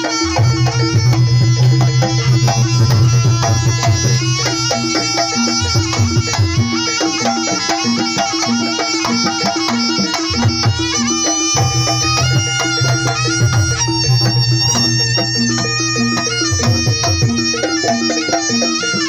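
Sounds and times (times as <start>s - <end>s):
hand drums: 0.0s - 19.0s
reedy wind instrument melody: 0.0s - 19.0s.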